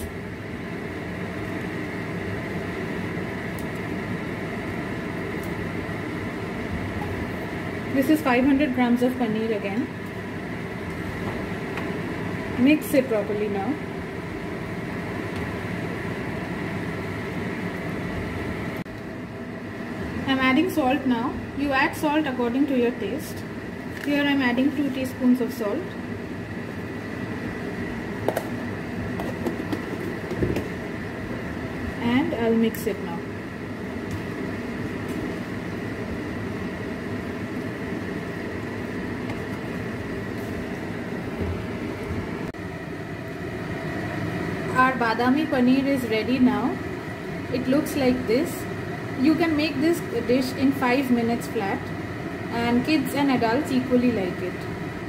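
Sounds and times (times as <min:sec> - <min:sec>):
steady whirring hum: 0:00.0 - 0:55.0.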